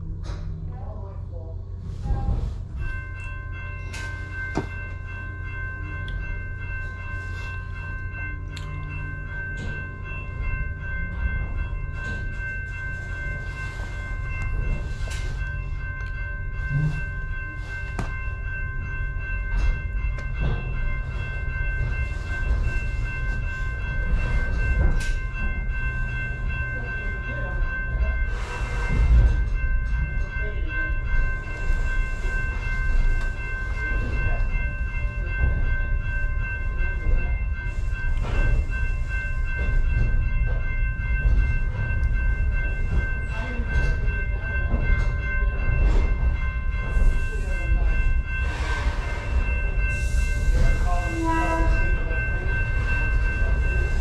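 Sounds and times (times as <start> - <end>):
railcar rumbling: 0.0 - 54.0.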